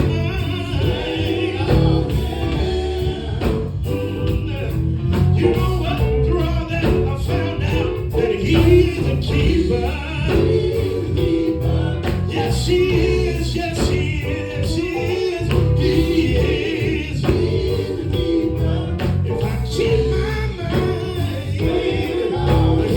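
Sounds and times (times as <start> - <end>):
male vocal group singing: 0.0 - 22.9
musical accompaniment: 0.0 - 22.9.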